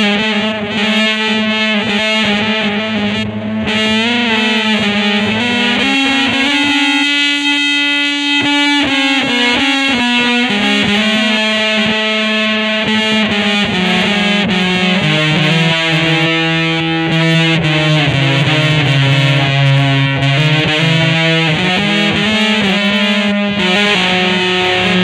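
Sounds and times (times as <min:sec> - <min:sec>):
distorted electric guitar notes: 0:00.0 - 0:25.0.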